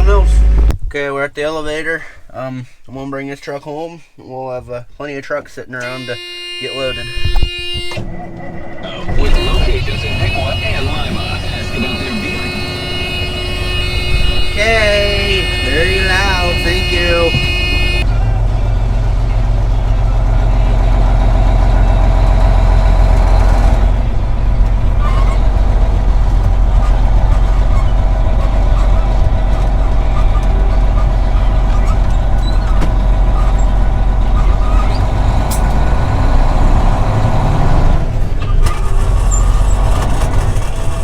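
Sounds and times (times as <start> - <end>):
truck engine running: 0.0 - 0.7, 6.0 - 41.0.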